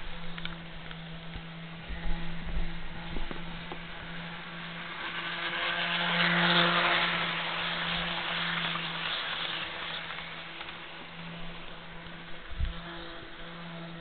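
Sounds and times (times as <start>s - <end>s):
model train running on track: 0.0s - 14.0s
steady low hum: 0.0s - 14.0s.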